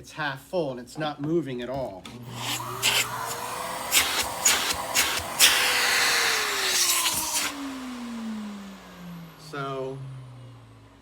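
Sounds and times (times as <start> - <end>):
vacuum cleaner motor whining: 2.2 - 11.0.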